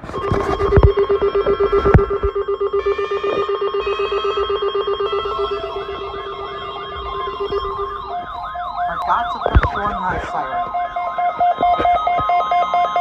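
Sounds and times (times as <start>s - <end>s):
warbling siren: 0.0s - 13.0s
weather radio alert beeps: 0.0s - 13.0s.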